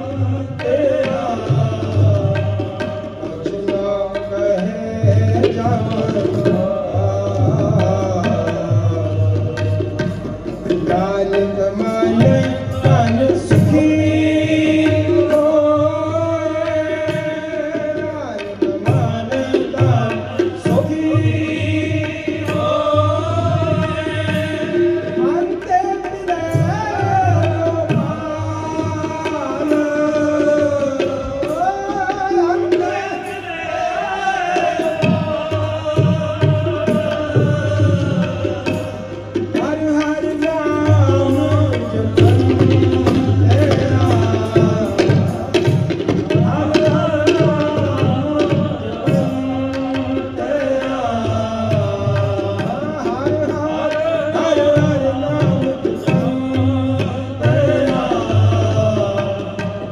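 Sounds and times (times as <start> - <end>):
harmoniums: 0.0 - 59.9
men singing: 0.0 - 59.9
tabla playing rhythm: 0.0 - 59.9.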